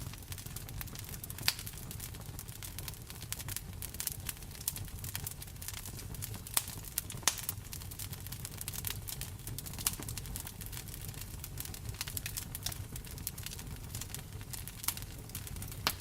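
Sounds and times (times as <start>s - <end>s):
loud fire pops: 0.0s - 16.0s
low fire rumble: 0.0s - 16.0s
wood fire crackling: 0.0s - 16.0s.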